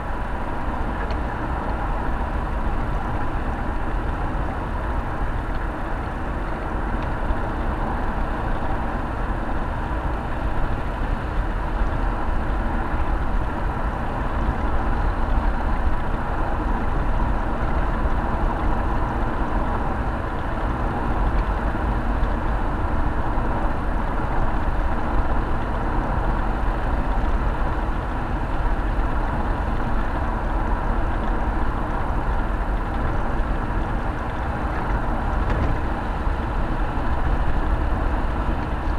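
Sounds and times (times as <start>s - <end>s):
car cabin road and wind noise: 0.0s - 38.9s.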